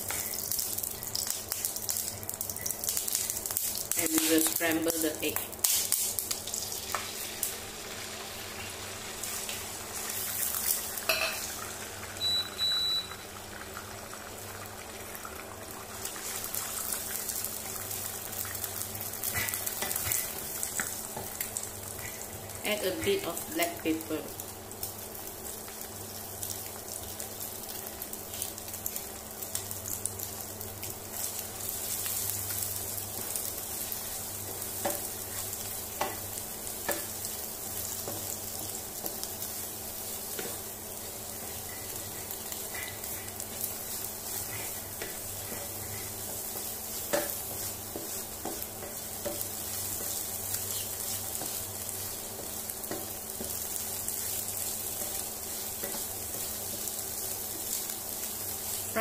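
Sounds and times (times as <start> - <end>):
eggs sizzling in oil: 0.0 - 59.0.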